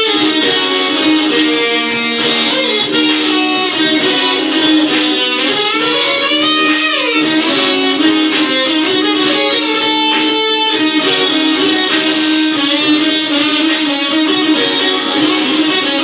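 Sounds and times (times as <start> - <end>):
electric guitar playing blues: 0.0 - 16.0.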